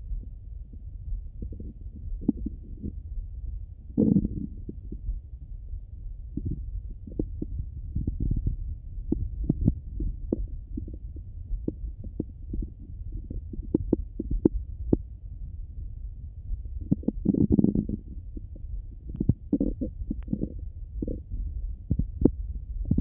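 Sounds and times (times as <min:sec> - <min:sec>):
steady low hum: 0:00.0 - 0:23.0
stomach clicks and gurgles: 0:00.2 - 0:03.0, 0:03.9 - 0:05.1, 0:06.4 - 0:15.1, 0:16.8 - 0:23.0.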